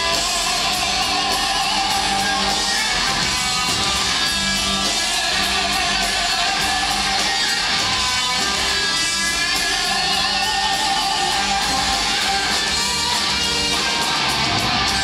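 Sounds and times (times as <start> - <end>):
electric guitars: 0.0 - 15.0
live rock band: 0.0 - 15.0.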